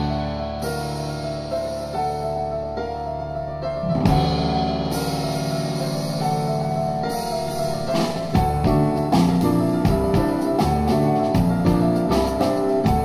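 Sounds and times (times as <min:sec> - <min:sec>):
double bass: 0:00.0 - 0:13.0
drum kit: 0:00.0 - 0:13.0
grand piano: 0:00.0 - 0:13.0.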